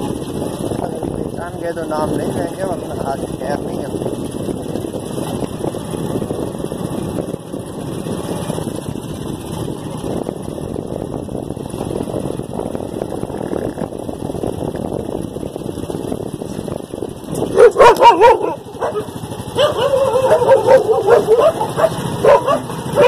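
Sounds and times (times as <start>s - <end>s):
motorcycle engine on dirt road: 0.0s - 23.0s.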